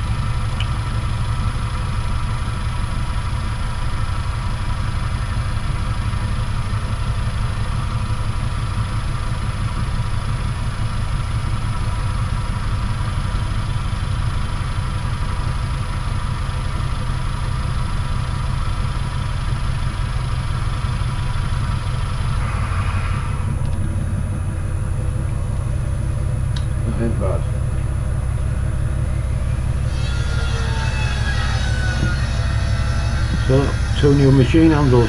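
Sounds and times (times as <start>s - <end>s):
metal lathe running: 0.0s - 35.0s.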